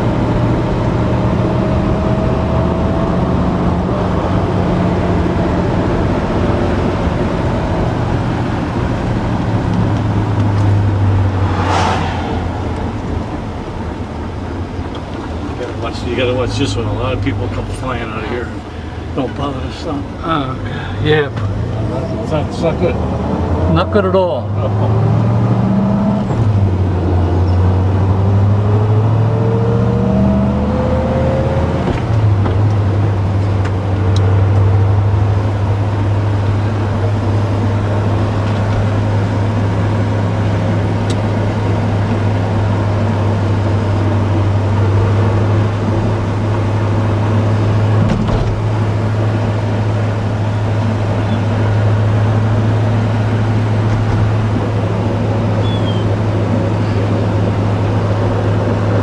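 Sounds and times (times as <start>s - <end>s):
car engine while driving: 0.0s - 59.0s
road noise inside car: 0.0s - 59.0s.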